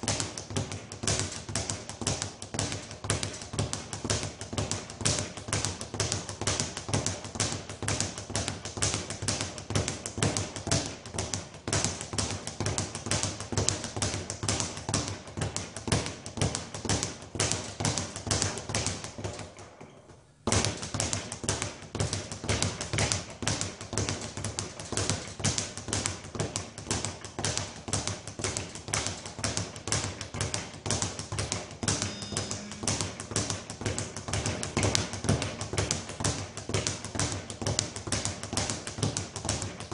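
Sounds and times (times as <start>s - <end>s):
speed bag being punched: 0.0s - 39.9s.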